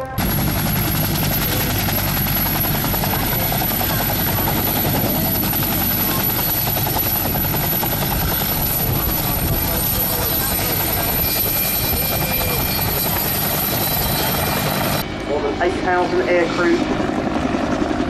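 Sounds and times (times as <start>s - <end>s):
turbine whine: 0.0s - 18.0s
helicopter rotor blade chop: 0.1s - 18.0s.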